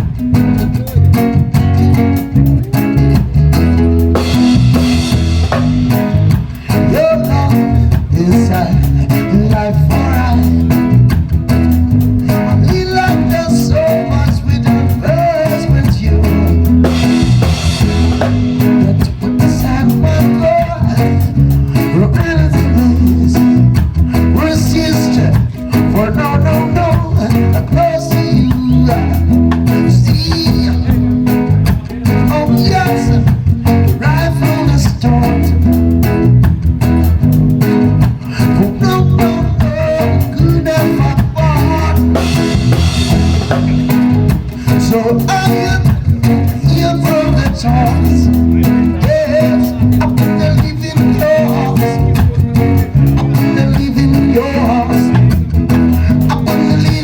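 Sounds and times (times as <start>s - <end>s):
live band playing reggae: 0.0s - 57.0s.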